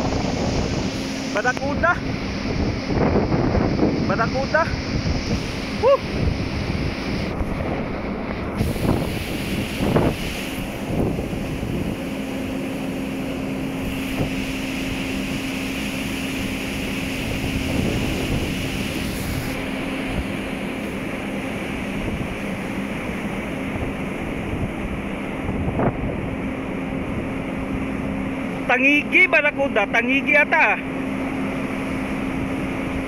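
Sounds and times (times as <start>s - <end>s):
wind buffeting microphone: 0.0s - 28.6s
rushing wash of ship's wake: 0.0s - 33.0s
ship machinery humming: 0.0s - 33.0s.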